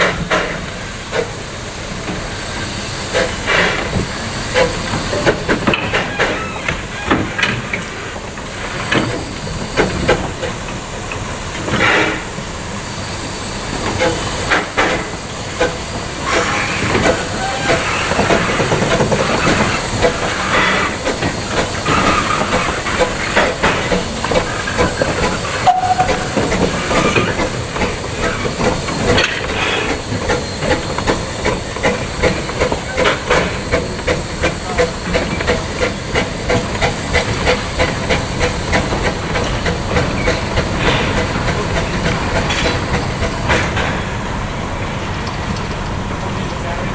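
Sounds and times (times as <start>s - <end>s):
steam hiss: 0.0s - 45.1s
steam locomotive beats: 0.0s - 46.9s.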